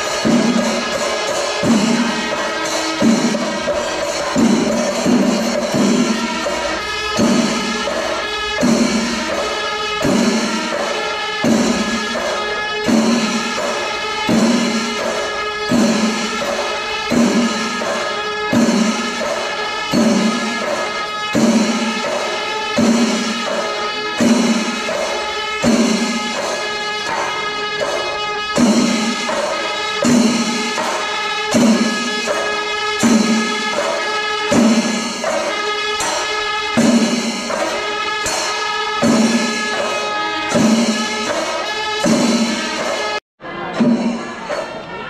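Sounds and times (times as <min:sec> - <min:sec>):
music with steady beat: 0:00.0 - 0:43.2.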